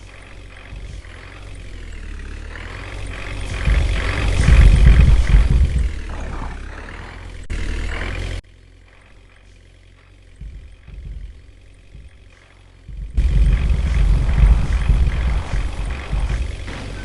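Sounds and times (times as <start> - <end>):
faint low rumbles: 0.0 - 17.0
heavy vehicle engine rumble: 0.0 - 17.0.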